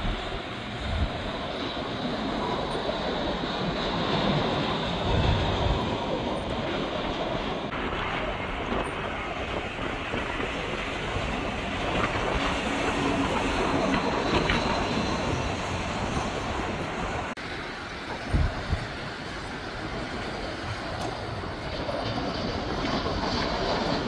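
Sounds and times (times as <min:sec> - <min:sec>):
jet engines on landing approach: 0:00.0 - 0:24.0.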